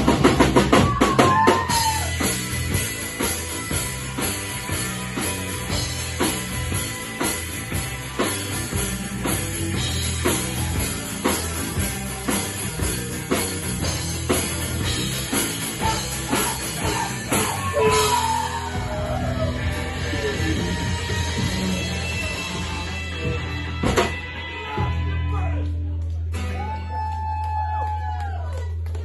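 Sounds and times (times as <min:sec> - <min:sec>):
drum kit beat: 0:00.0 - 0:25.3
rock band playing: 0:00.0 - 0:28.2.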